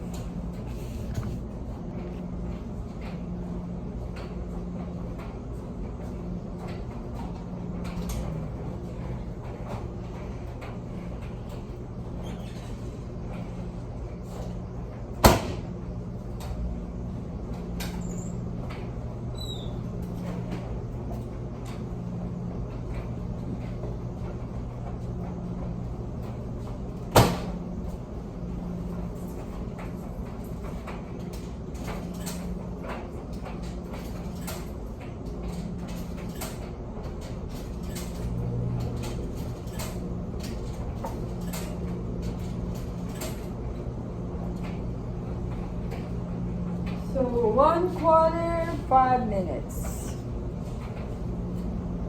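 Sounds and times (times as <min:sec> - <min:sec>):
low machine hum: 0:00.0 - 0:52.0.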